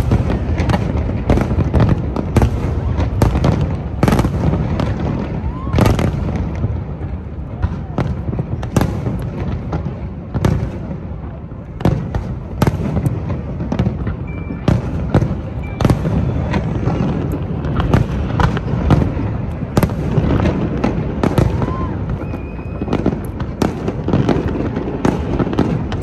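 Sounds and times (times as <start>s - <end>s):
firework bangs: 0.0s - 26.0s
low rumble of explosions: 0.0s - 26.0s.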